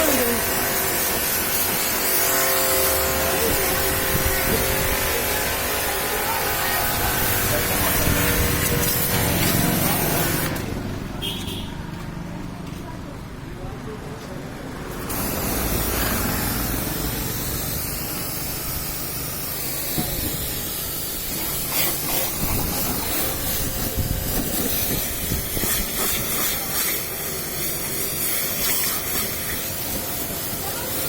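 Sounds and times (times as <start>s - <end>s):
water spraying: 0.0s - 11.5s, 14.8s - 31.0s.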